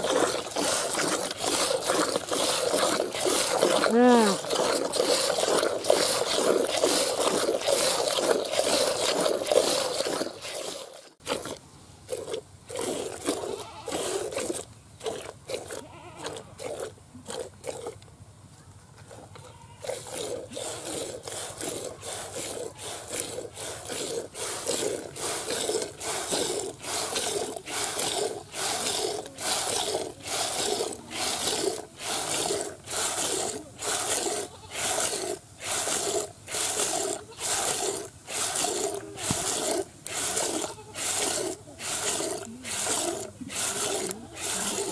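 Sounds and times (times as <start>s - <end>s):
milk squirting into bucket: 0.0s - 18.0s, 19.8s - 44.9s.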